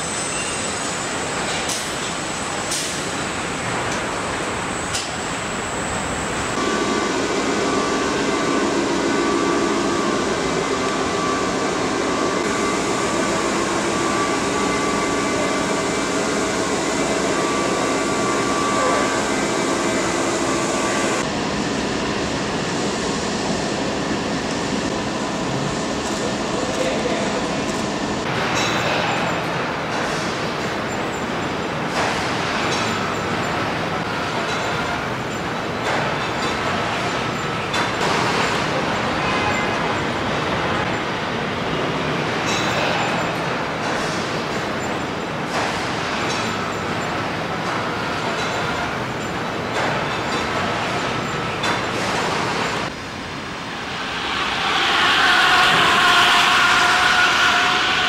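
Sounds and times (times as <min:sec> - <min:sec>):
din of line machinery: 0:00.0 - 0:58.0
steady whining hum: 0:00.0 - 0:58.0.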